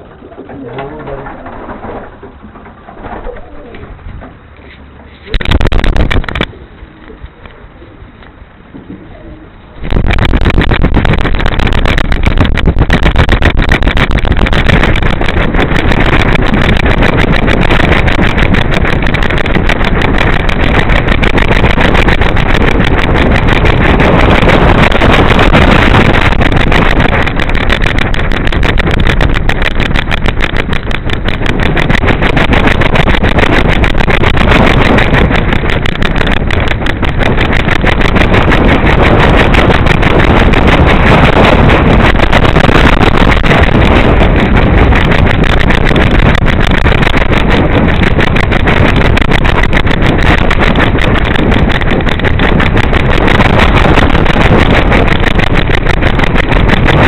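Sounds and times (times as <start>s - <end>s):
wind buffeting camera: 0.0s - 57.0s.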